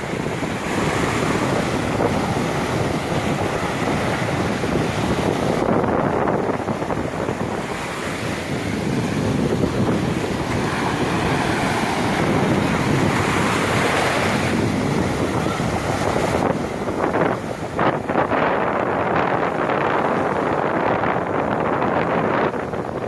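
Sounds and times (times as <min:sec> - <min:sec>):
sea waves washing onto shore: 0:00.0 - 0:23.0
wind buffeting microphone: 0:00.0 - 0:23.0.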